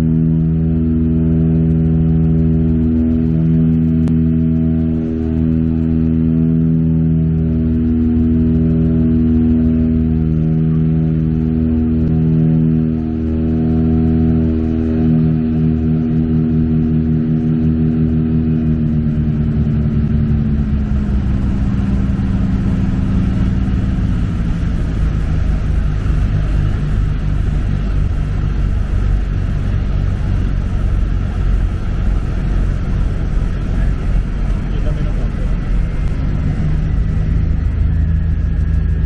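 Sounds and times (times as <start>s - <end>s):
heavy rough rumble: 0.0s - 39.0s
propeller plane engines droning: 0.0s - 39.0s.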